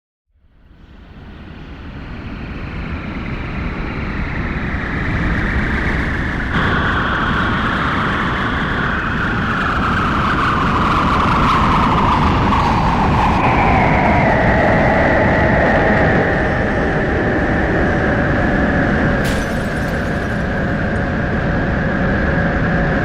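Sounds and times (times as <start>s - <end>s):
deep rumble: 0.8s - 23.0s.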